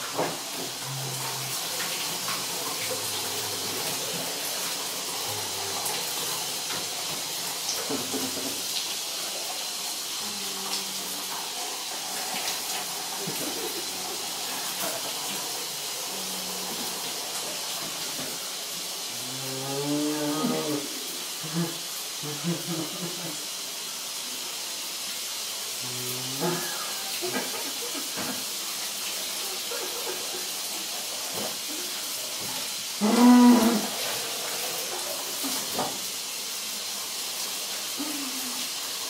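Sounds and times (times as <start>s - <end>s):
shower spray hissing: 0.0s - 39.0s.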